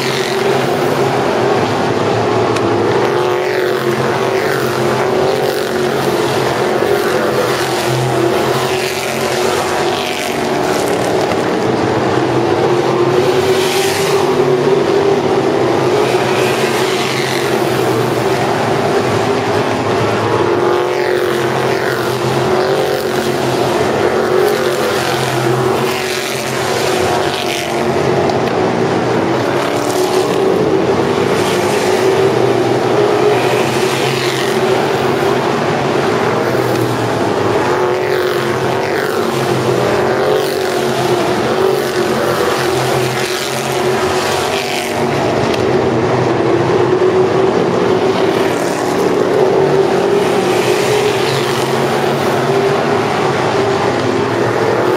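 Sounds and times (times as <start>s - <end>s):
race car engines passing by: 0.0s - 54.9s.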